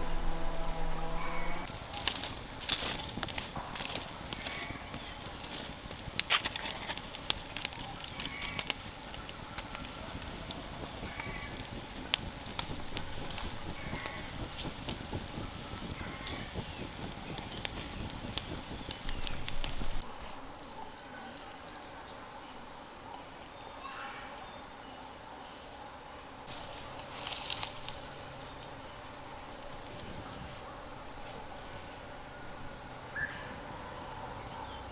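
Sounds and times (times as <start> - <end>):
hiss with crackling pops: 0.0 - 34.9
pulsing insect trill: 0.0 - 34.9.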